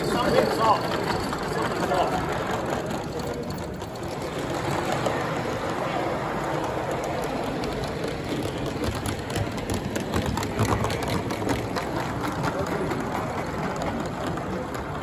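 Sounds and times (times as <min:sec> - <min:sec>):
model steam train on track: 0:00.0 - 0:15.0.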